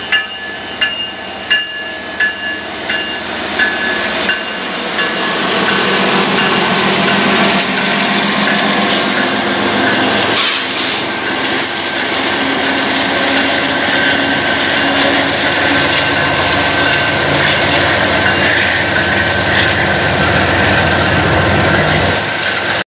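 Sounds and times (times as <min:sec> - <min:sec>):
diesel locomotive engines: 0:00.0 - 0:22.8
freight cars rolling on rails: 0:00.0 - 0:22.8.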